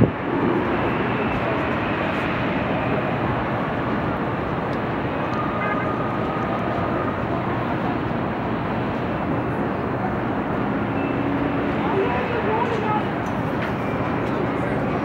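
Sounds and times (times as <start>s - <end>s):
city din: 0.0s - 15.0s
faint voices: 0.0s - 15.0s.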